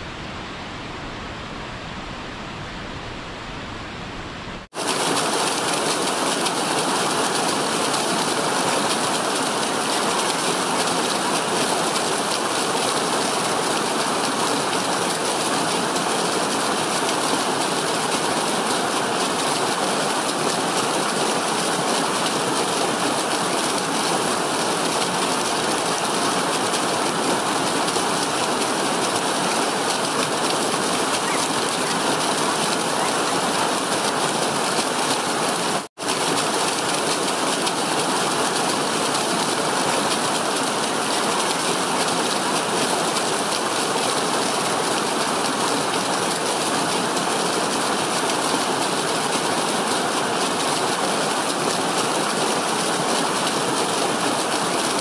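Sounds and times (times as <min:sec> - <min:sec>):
stream cascading over rocks: 0:04.6 - 0:55.0.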